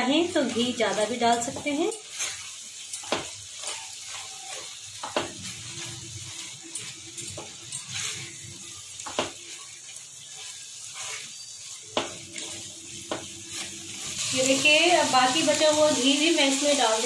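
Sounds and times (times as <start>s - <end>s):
spatula scraping a pan: 0.0s - 16.0s
food sizzling in a pan: 0.0s - 17.0s.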